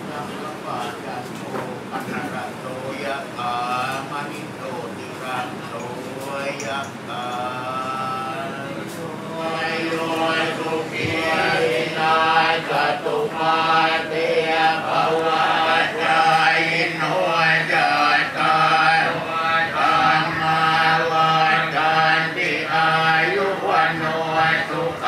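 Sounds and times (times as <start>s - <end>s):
monks chanting in unison: 1.9s - 25.0s.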